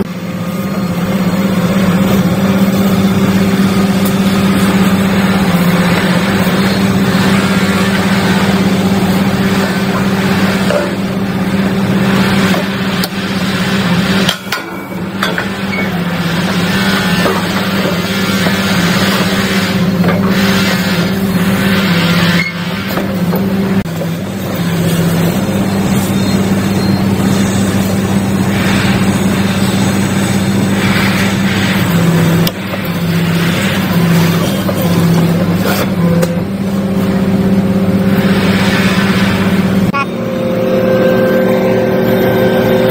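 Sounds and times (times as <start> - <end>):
hydraulic machine humming: 0.0 - 42.9.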